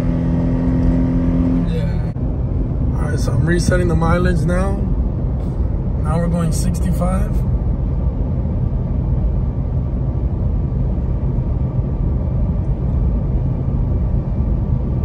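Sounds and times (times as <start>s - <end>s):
car engine hum: 0.0s - 15.0s
road and tyre rumble: 0.0s - 15.0s.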